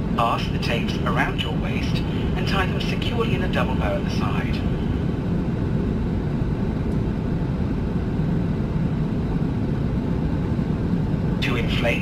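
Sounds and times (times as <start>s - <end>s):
airplane cabin low rumble: 0.0s - 12.0s.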